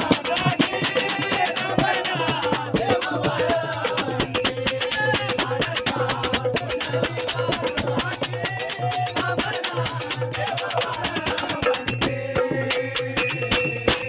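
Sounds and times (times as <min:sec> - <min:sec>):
fast dense percussion beats: 0:00.0 - 0:14.0.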